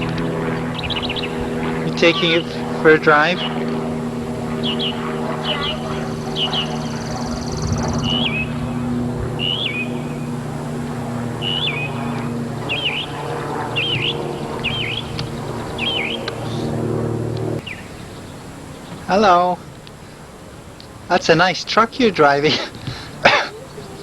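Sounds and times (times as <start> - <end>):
bird chirping: 0.0 - 24.0
low mechanical hum: 0.0 - 24.0.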